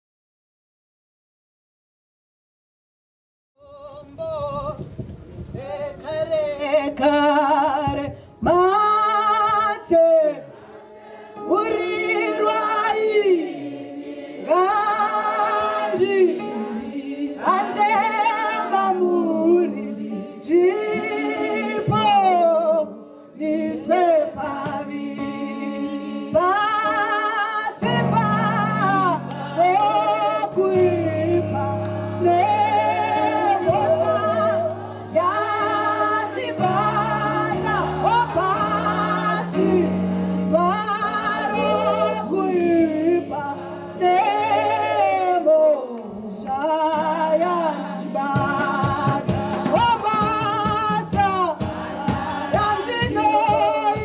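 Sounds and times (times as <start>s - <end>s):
woman singing a hymn: 3.6s - 10.6s, 11.3s - 54.0s.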